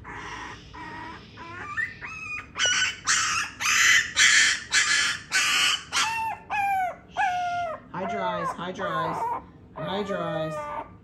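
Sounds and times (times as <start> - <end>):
puppy crying and yelping: 0.0 - 11.0.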